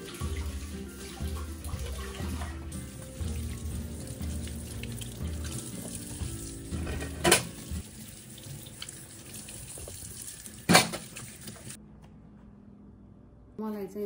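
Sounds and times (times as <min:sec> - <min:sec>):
tap water running into sink: 0:00.0 - 0:11.8.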